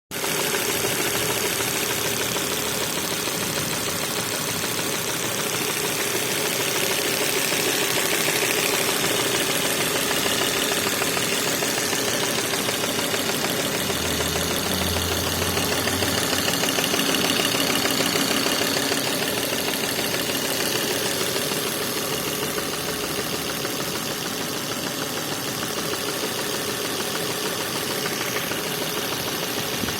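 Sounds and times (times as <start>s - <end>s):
car engine idling with knocking: 0.1s - 29.9s.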